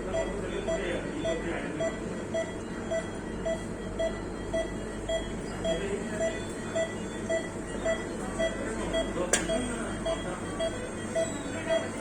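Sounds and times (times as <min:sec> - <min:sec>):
steady low hum: 0:00.0 - 0:12.0
medical alarm beeping: 0:00.1 - 0:12.0.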